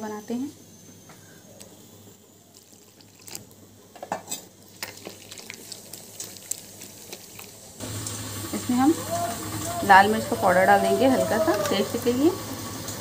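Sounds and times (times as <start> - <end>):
batter being mixed by hand: 1.6 - 12.6.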